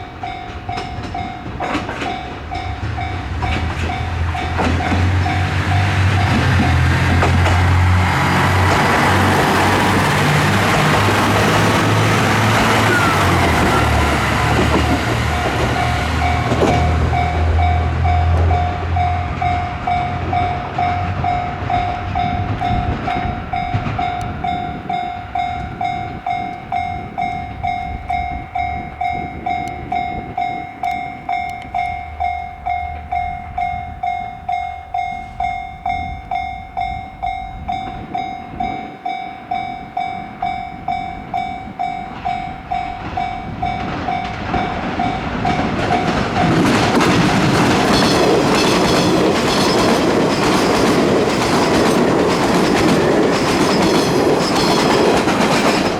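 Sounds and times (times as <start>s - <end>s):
level crossing warning bell: 0.0s - 55.9s
train rumbling past: 0.0s - 55.9s.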